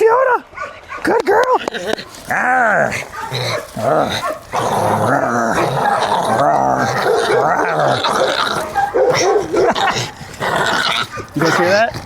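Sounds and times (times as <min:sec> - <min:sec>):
dog growling: 0:01.6 - 0:12.0.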